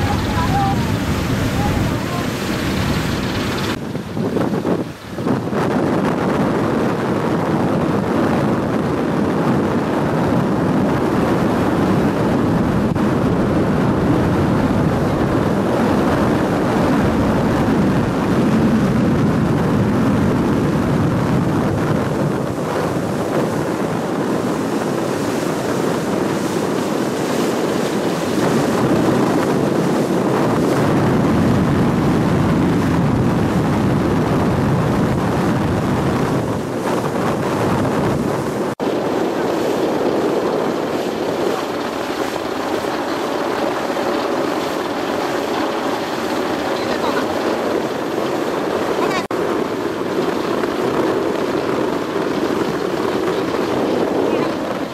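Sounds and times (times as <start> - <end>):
boat running noise: 0.0 - 54.9
water: 0.0 - 54.9
wind rushing over microphone: 0.0 - 54.9.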